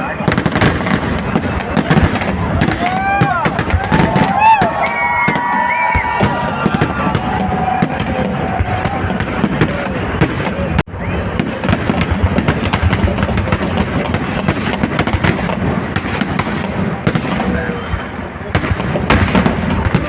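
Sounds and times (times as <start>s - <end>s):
firecrackers banging: 0.0s - 20.0s.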